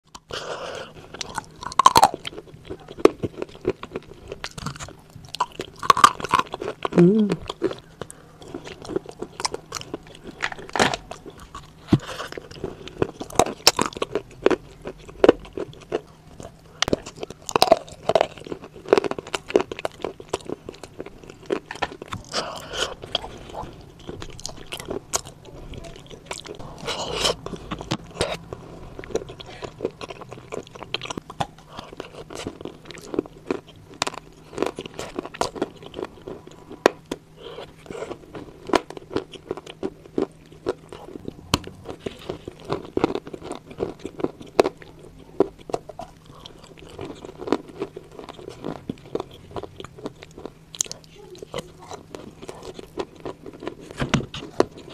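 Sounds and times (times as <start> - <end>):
wet chewing: 0.1 - 54.9.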